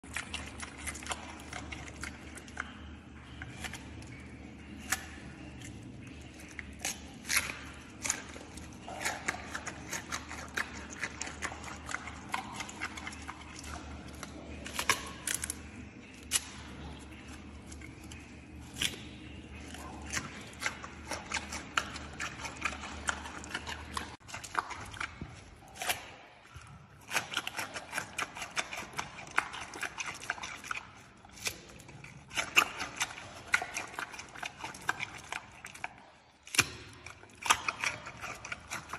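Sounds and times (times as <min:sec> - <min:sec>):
panda crunching pumpkin: 0:00.0 - 0:02.7, 0:03.4 - 0:38.9.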